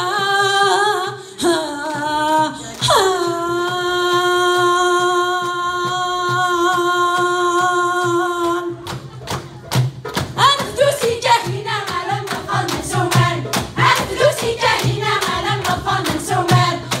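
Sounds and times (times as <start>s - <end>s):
woman singing into a microphone: 0.0s - 8.9s, 10.4s - 17.0s.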